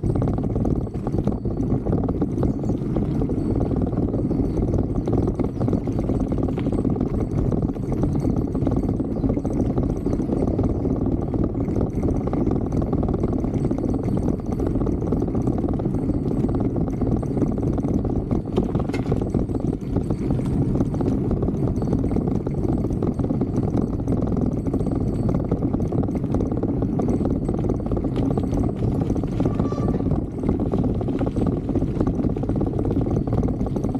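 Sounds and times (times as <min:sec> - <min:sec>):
bike rattling over rough ground: 0:00.0 - 0:33.9
wind rushing over microphone: 0:00.0 - 0:33.9.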